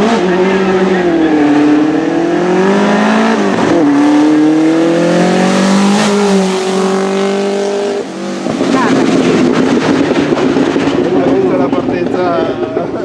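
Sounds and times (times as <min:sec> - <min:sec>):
racing car engine accelerating: 0:00.0 - 0:13.0.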